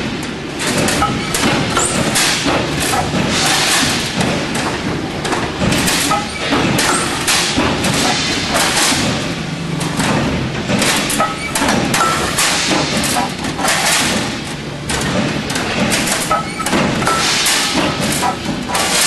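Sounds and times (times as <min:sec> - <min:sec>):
roll-forming machine clattering: 0:00.0 - 0:19.0.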